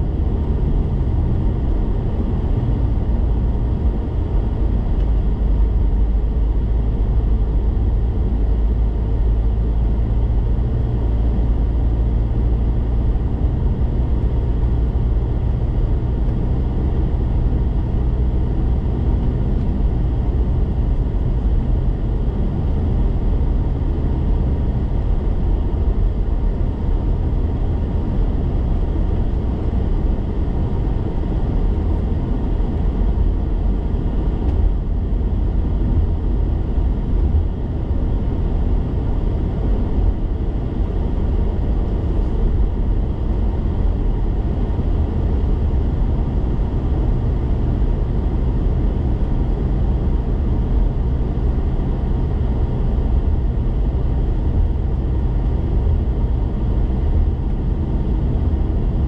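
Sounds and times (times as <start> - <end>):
car interior engine and tyre rumble: 0.0 - 59.0.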